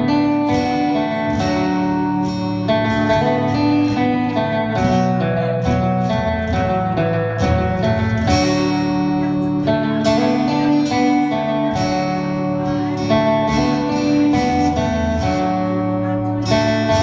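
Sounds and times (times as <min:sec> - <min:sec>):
guitar chords and plucked notes: 0:00.0 - 0:17.0
sustained low notes: 0:00.0 - 0:17.0.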